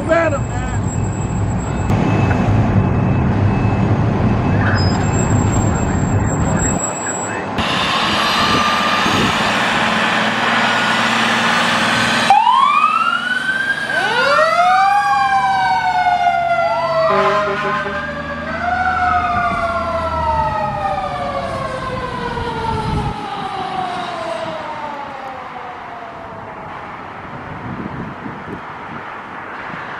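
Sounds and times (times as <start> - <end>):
fire truck sirens wailing: 0.0 - 28.1
engine and road noise: 0.0 - 29.9.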